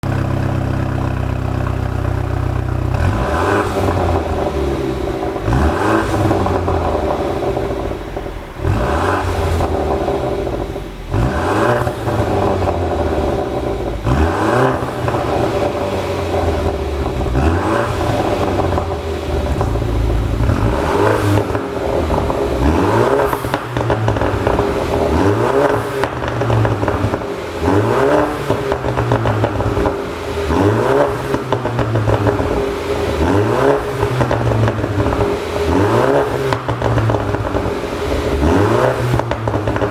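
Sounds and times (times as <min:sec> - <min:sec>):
car engine idling and revving: 0:00.0 - 0:39.9
exhaust popping and crackling: 0:00.0 - 0:39.9.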